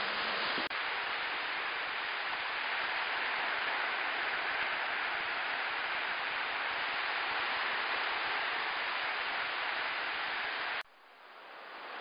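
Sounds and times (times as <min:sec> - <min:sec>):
surf washing onto beach: 0:00.0 - 0:10.8.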